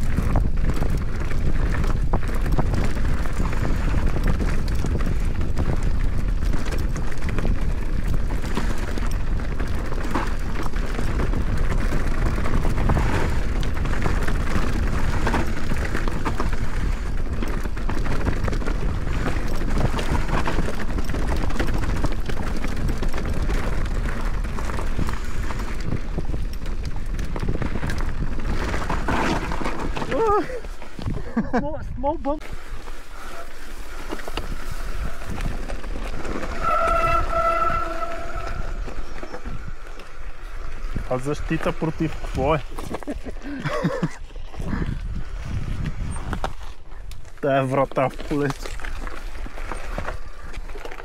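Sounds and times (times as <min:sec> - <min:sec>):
wind rushing over microphone: 0:00.0 - 0:47.4
bike rattling and knocking: 0:00.0 - 0:51.0
tyre and trail noise: 0:00.0 - 0:51.0.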